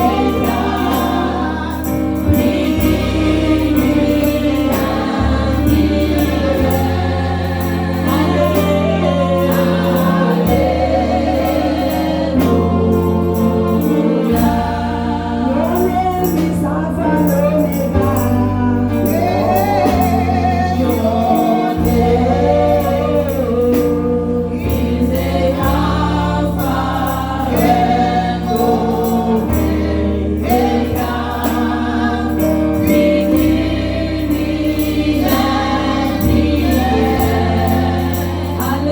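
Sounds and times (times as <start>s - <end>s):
band with deep bass line: 0.0s - 38.9s
gospel choir singing: 0.0s - 38.9s.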